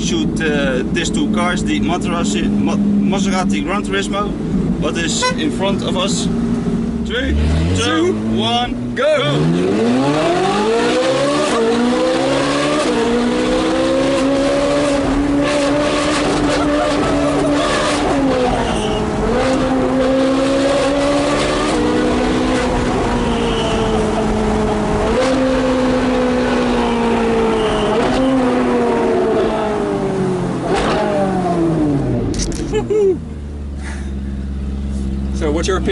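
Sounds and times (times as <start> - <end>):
sports car engine at full throttle: 0.0 - 35.9.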